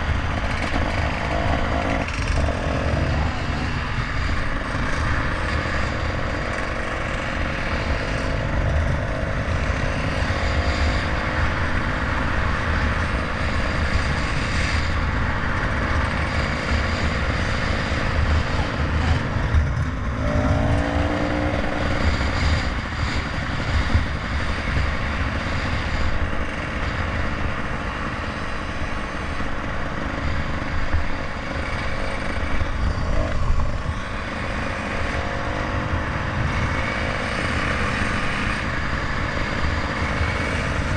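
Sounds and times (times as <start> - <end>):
motorcycle engine rumble: 0.0 - 40.9
wind and road noise: 0.0 - 40.9.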